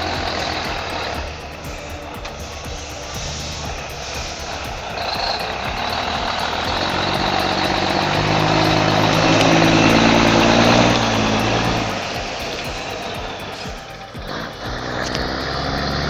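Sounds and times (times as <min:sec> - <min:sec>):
heavy truck engine running: 0:00.0 - 0:16.0.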